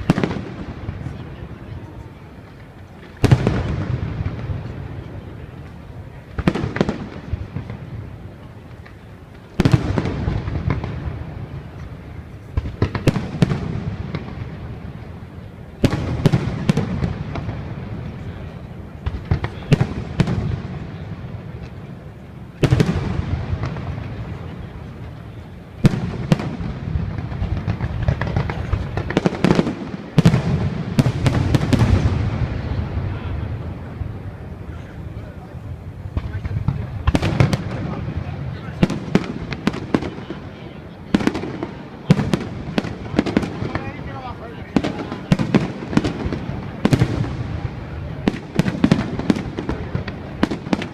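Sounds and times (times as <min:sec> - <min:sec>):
fireworks bangs with crackle: 0:00.0 - 0:50.9.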